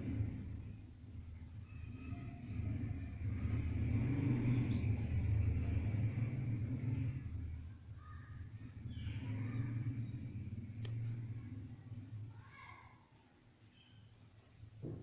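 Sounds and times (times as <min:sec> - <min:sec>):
low steady rumble: 0:00.0 - 0:12.9.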